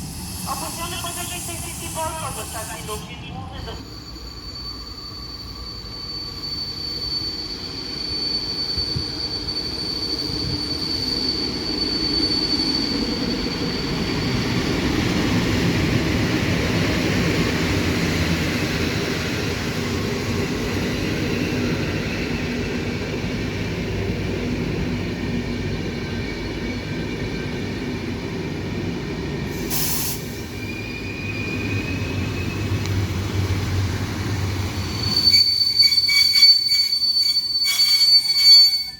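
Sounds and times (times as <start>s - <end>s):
train rumbling by: 0.0s - 38.9s.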